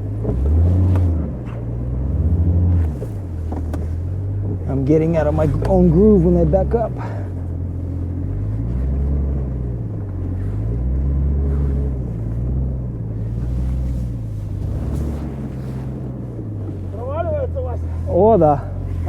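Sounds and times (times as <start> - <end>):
engine revving in snow: 0.0 - 19.0.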